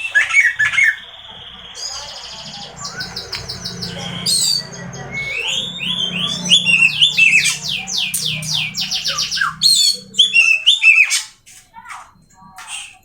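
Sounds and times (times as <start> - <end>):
bird singing whistled song: 0.0 - 11.3, 12.6 - 13.0.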